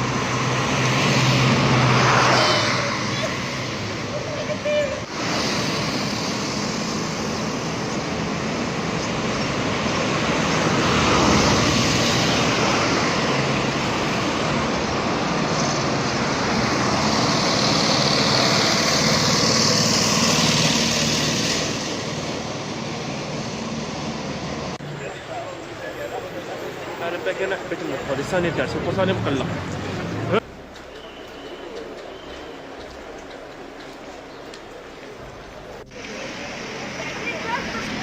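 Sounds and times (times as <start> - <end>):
street traffic passing: 0.0 - 38.0.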